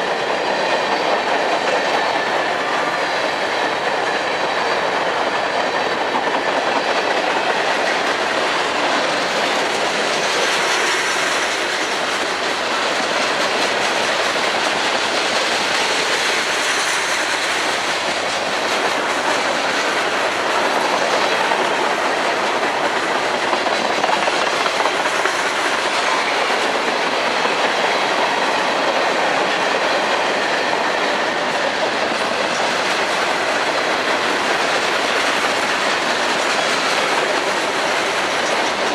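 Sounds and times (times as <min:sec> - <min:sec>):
clickety-clack over rail joints: 0:00.0 - 0:38.9
train wheels rumbling on rails: 0:00.0 - 0:38.9.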